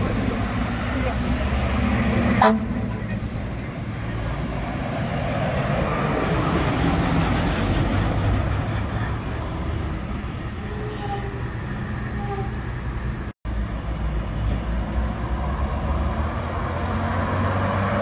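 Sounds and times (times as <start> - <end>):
fire engine driving past: 0.0 - 18.0.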